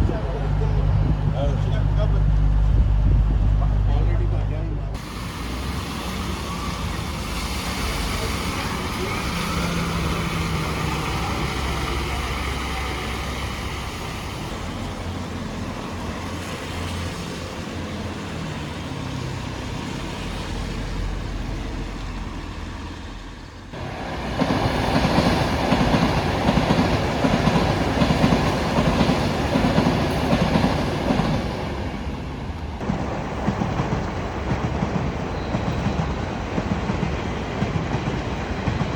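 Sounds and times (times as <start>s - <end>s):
passenger train rumbling: 0.0s - 38.9s
train wheels rattling over rails: 5.0s - 38.9s.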